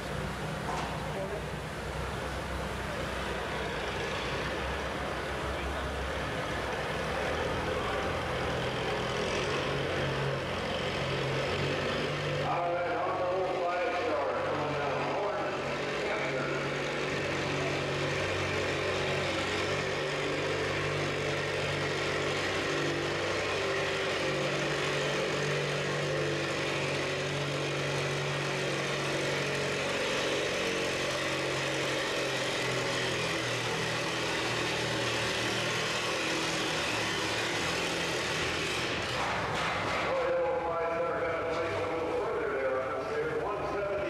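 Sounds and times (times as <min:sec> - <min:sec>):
tractor engine under full load: 0:00.0 - 0:44.0.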